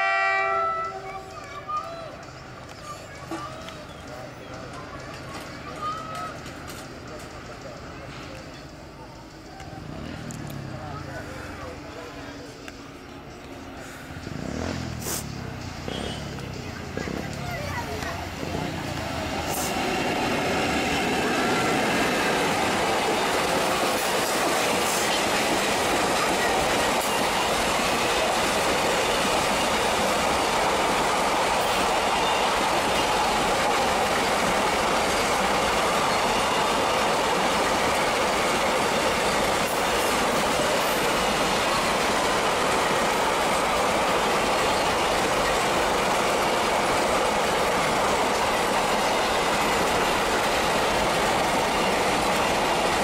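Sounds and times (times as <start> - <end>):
freight train wheels rushing: 0.0 - 53.0.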